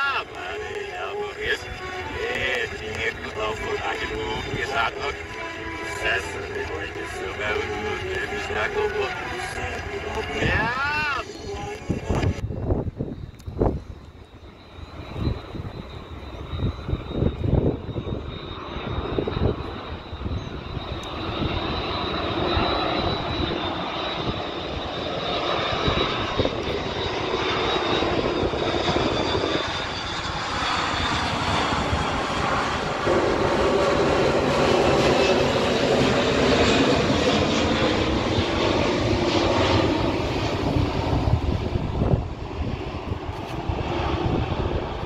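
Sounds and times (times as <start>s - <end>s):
jet engine fan whine: 0.0s - 45.0s
jet engine rush: 0.0s - 45.0s.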